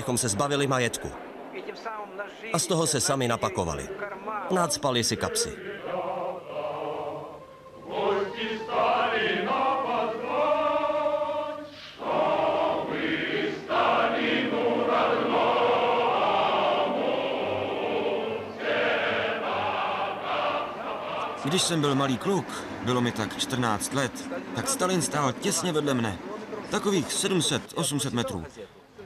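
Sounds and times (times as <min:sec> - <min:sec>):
choir singing long notes: 0:00.0 - 0:27.4.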